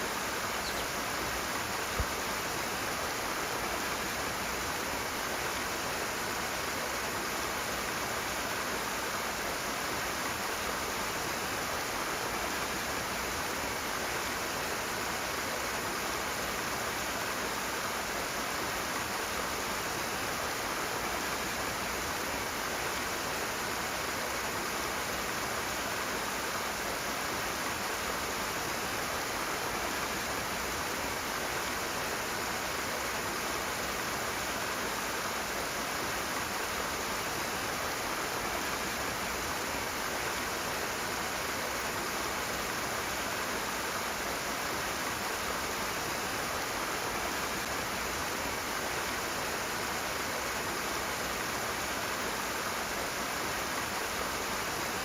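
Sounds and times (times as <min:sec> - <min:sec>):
fast-flowing stream rushing: 0:00.0 - 0:55.0.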